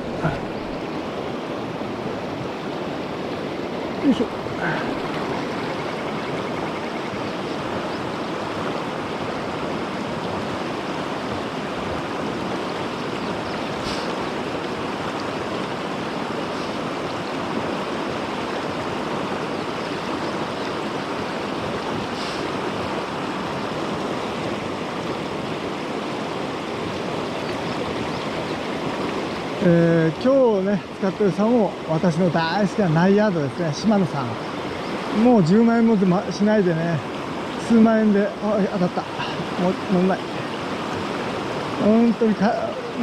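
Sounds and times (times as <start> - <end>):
river rushing over stones: 0.0 - 43.0.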